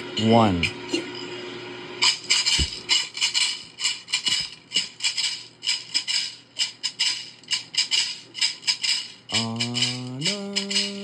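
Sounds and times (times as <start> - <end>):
handheld shaker rhythm: 2.0 - 11.0.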